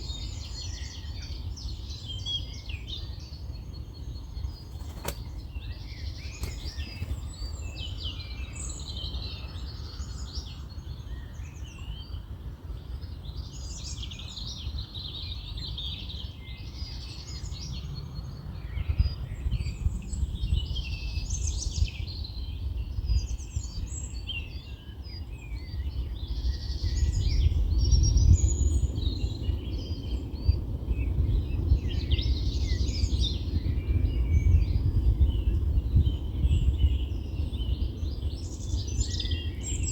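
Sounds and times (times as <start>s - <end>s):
low rumble of wind: 0.0s - 39.9s
small birds chirping: 0.0s - 39.9s.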